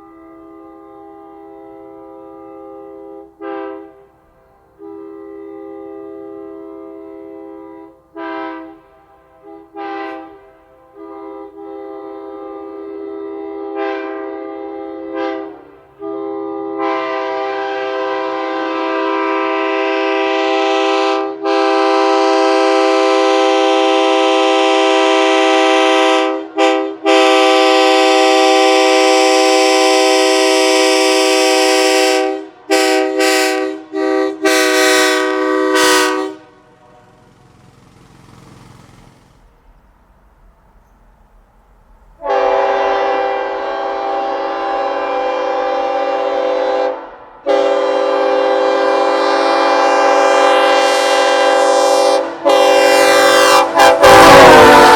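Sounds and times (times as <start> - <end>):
train horn chord blasts: 0.0 - 37.3, 42.2 - 54.9.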